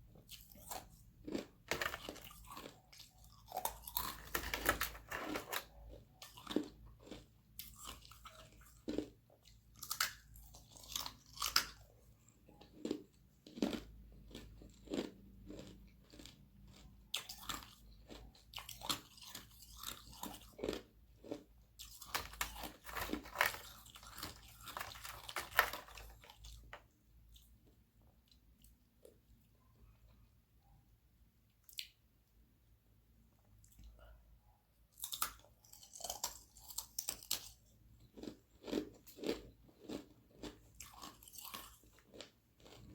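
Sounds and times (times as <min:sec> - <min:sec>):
chewing and crunching ice: 0:00.1 - 0:30.3, 0:34.9 - 0:42.9.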